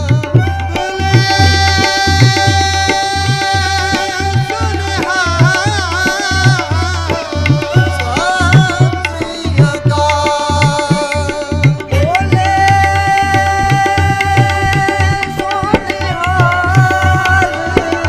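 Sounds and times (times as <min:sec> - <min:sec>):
tabla rhythm: 0:00.0 - 0:18.0.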